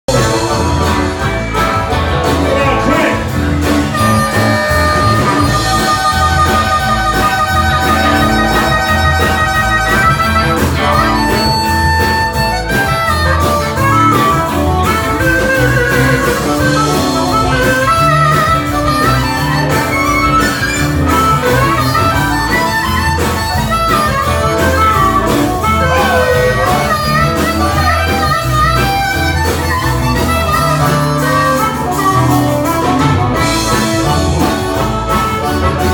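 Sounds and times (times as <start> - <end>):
guitar: 0.0 - 35.9
harmonica playing: 0.1 - 35.9
steady bass line: 0.1 - 35.9.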